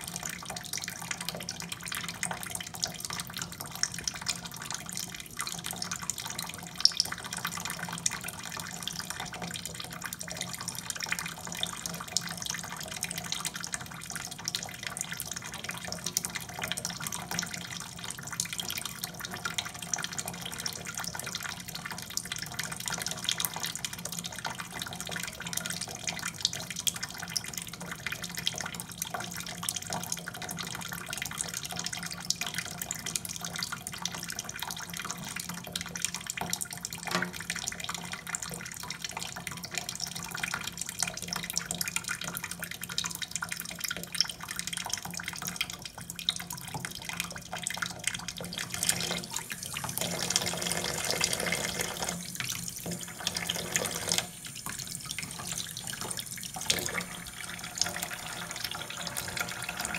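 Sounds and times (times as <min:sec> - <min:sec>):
tap water splashing in a sink: 0:00.0 - 0:59.9.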